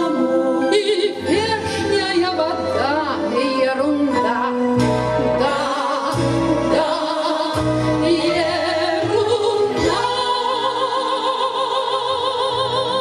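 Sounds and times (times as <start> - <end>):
instrumental accompaniment: 0.0 - 13.0
women singing: 0.0 - 13.0.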